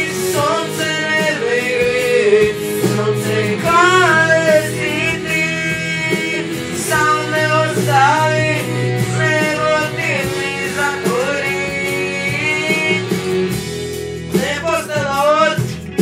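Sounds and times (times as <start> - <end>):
male voice singing ballad: 0.0 - 13.6, 14.3 - 16.0
acoustic guitar chords: 0.0 - 16.0.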